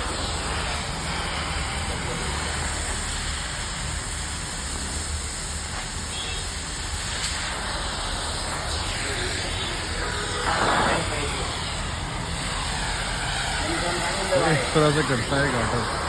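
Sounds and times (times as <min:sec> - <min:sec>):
gas cutting torch hissing: 0:00.0 - 0:16.0.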